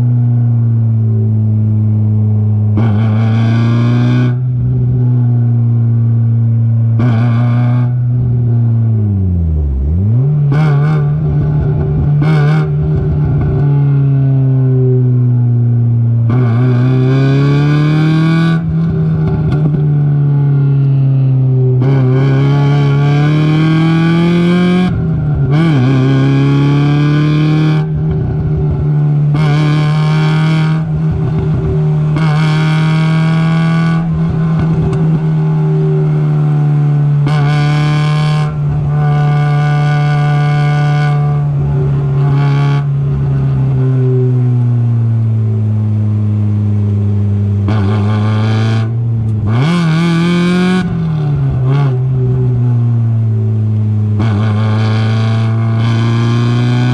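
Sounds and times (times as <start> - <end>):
race car engine: 0.0 - 56.9.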